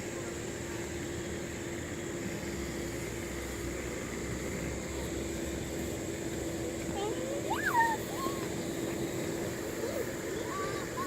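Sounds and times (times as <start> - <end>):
electric blower fan humming: 0.0 - 11.0.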